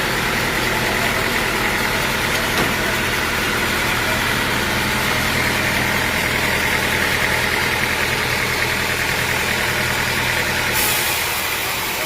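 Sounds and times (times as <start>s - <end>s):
sawmill machinery droning: 0.0s - 12.0s.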